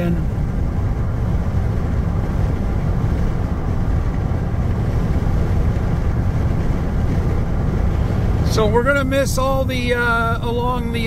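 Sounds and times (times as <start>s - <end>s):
engine and tyre road noise: 0.0s - 11.0s.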